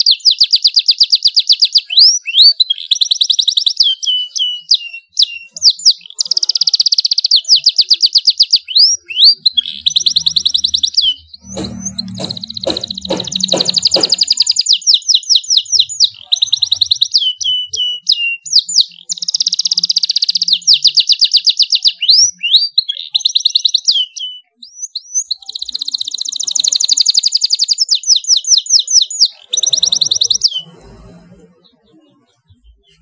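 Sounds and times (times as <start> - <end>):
canary singing trills: 0.0 - 33.0.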